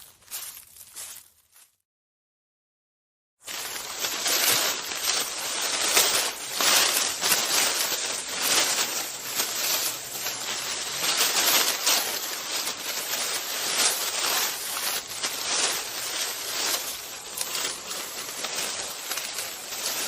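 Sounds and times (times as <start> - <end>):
footsteps scraping: 0.0 - 1.8, 3.5 - 20.0.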